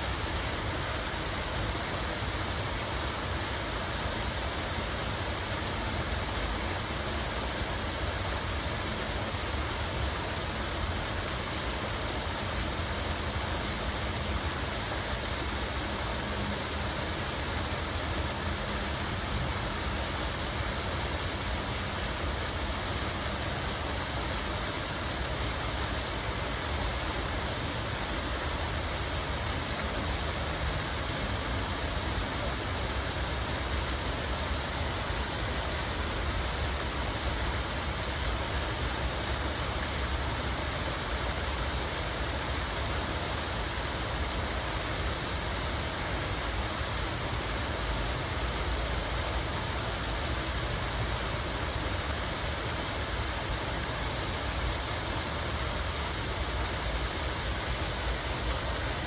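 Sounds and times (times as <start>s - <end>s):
fountain water rushing: 0.0s - 59.0s.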